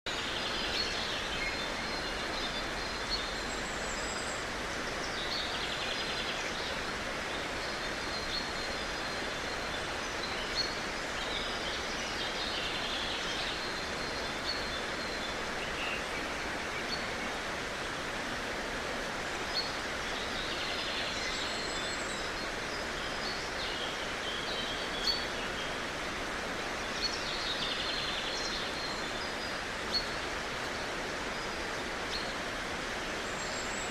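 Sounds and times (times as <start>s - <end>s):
birds chirping and trilling: 0.1s - 33.9s
steady outdoor hiss: 0.1s - 33.9s.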